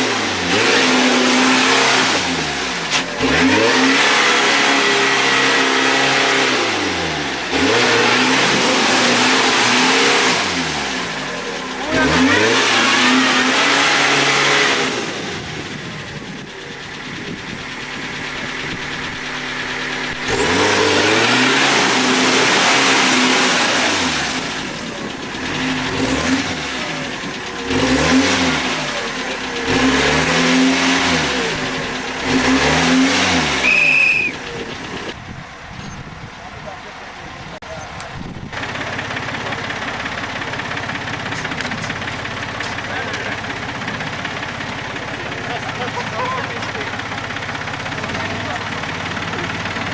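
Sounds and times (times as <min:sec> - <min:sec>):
off-road vehicle engine revving: 0:00.0 - 0:49.9.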